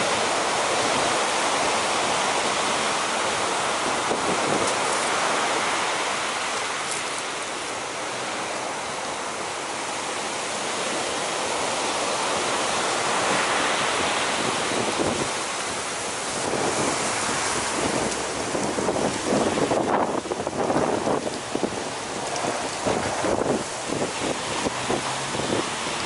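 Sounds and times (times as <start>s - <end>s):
big surf breaking: 0.0s - 26.0s
wind noise on microphone: 0.0s - 26.0s.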